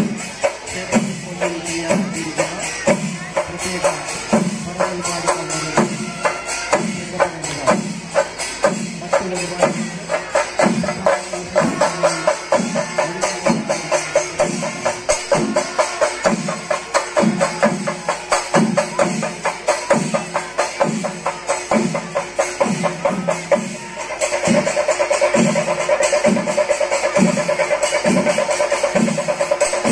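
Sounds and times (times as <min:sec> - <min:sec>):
deep drum beats: 0:00.0 - 0:29.9.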